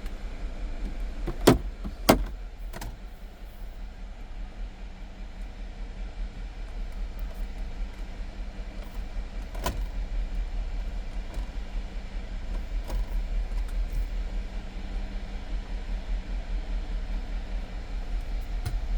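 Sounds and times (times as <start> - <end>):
car rumble: 0.0 - 18.9.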